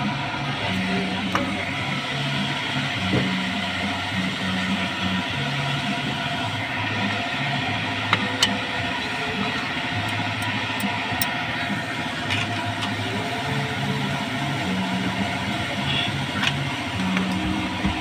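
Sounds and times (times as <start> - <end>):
background music with bass line: 0.0 - 18.0.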